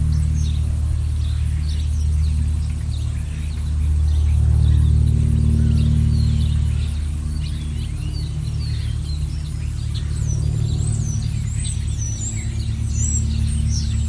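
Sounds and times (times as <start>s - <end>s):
songbirds chirping: 0.0s - 14.0s
steady low hum: 0.0s - 14.0s.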